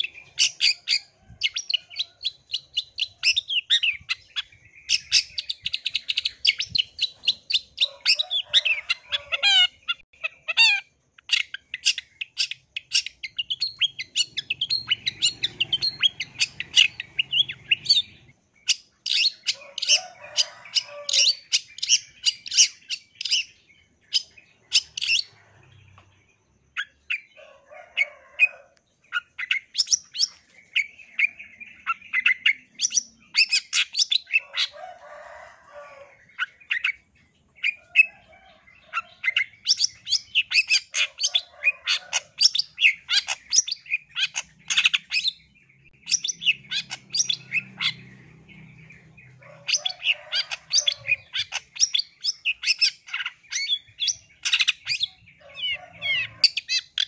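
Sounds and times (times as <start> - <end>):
bird singing chattering trills: 0.0 - 28.2, 29.0 - 35.4, 36.0 - 57.0.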